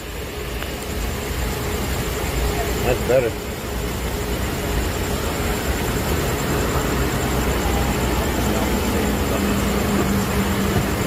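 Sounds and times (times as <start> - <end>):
low steady hum: 0.0 - 11.0
road traffic rumble: 0.0 - 11.0.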